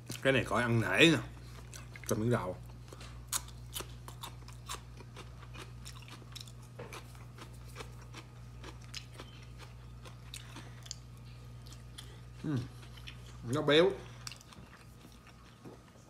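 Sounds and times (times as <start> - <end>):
low steady hum: 0.0 - 16.0
person chewing: 1.4 - 16.0.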